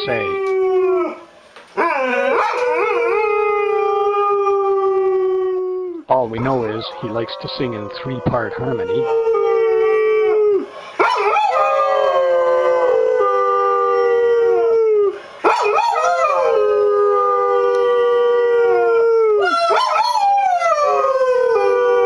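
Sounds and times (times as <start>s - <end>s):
dog howling: 0.0s - 22.0s.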